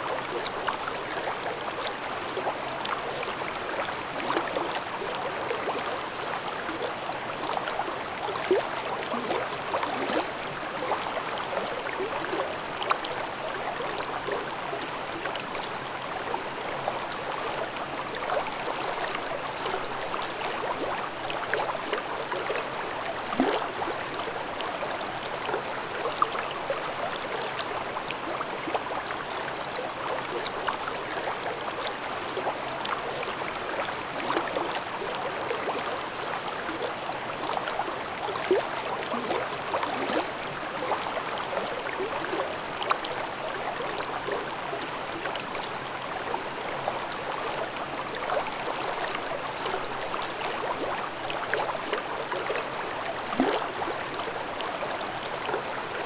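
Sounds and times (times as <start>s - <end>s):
stream babbling over rocks: 0.1s - 56.0s.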